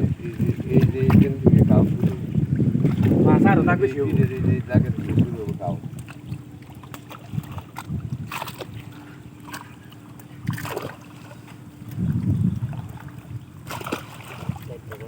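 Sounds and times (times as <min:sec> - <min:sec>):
water splashing around boat: 0:00.0 - 0:15.0.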